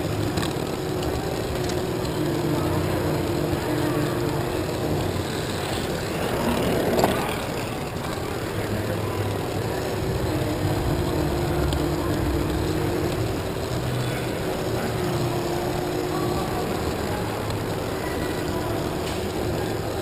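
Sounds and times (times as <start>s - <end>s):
toy train motor whirring: 0.0s - 20.0s.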